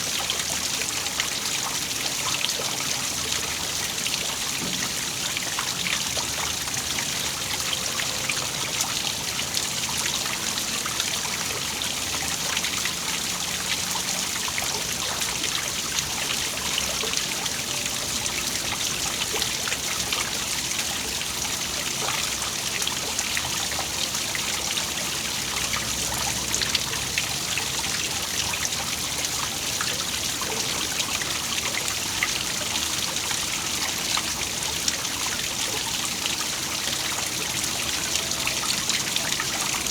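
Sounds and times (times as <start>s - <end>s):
small waterfall splashing: 0.0s - 39.9s
water trickle: 0.0s - 39.9s.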